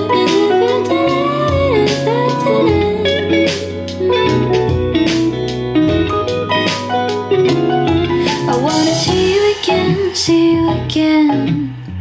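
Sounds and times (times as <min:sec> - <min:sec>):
guitar-led song over speakers: 0:00.0 - 0:12.0.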